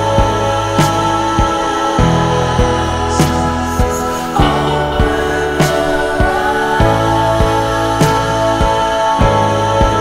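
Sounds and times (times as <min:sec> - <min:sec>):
low drum beat: 0:00.0 - 0:10.0
sustained chords: 0:00.0 - 0:10.0.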